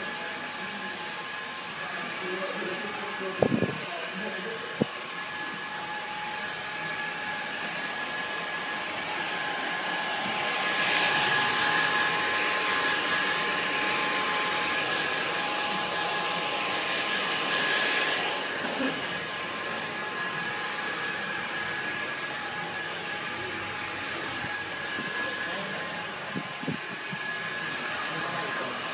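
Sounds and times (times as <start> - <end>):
hair dryer whine and air rush: 0.0 - 28.9.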